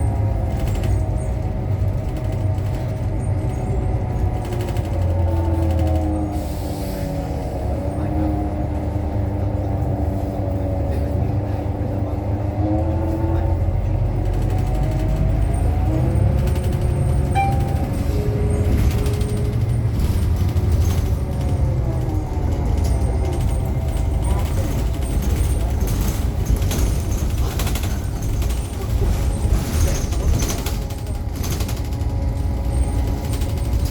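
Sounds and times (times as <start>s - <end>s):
bus drive whine: 0.0s - 33.9s
low engine rumble: 0.0s - 33.9s.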